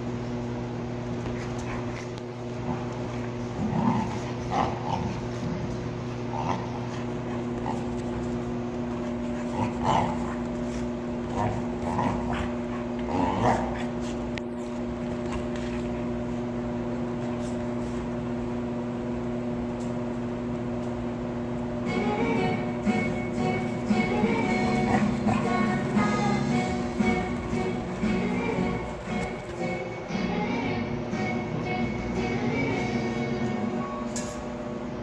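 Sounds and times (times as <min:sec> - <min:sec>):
steady low hum: 0:00.0 - 0:35.0
dogs play-fighting: 0:00.2 - 0:21.0, 0:22.5 - 0:30.4.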